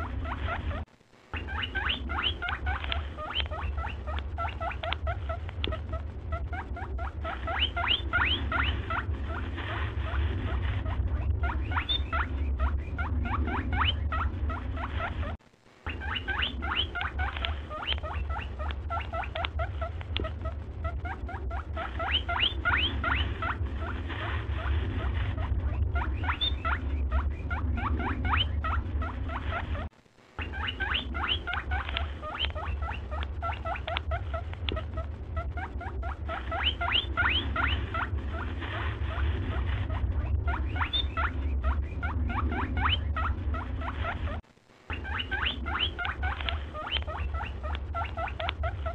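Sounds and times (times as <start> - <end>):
steady low hum: 0.0 - 30.4, 31.0 - 48.9
rapid squeaky chirps: 0.0 - 48.9.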